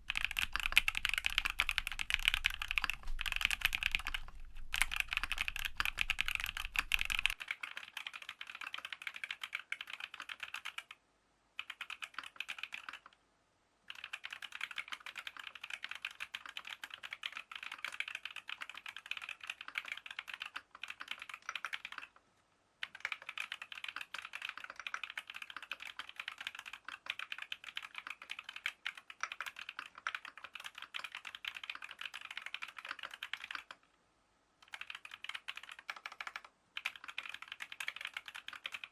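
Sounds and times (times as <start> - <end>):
fast mechanical keyboard typing: 0.0 - 11.0, 11.6 - 13.2, 13.9 - 22.2, 22.8 - 33.8, 34.6 - 38.9.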